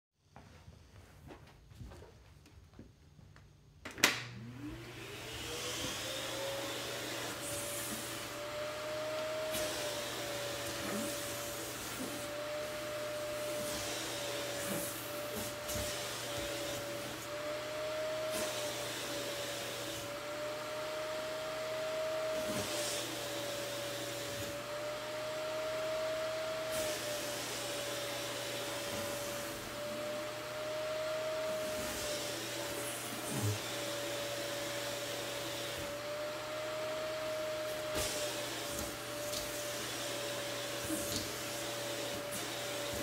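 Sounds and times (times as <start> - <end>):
vacuum cleaner motor whining: 3.9 - 43.0.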